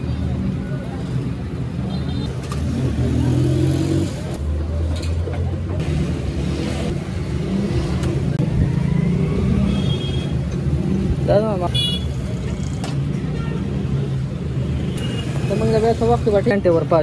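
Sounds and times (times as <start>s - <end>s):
vehicle engines running and revving: 0.0s - 17.0s.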